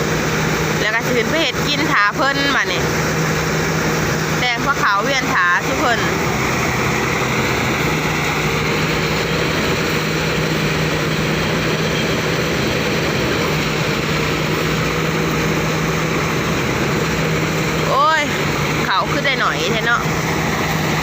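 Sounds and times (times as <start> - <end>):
threshing machine engine droning: 0.0 - 21.0.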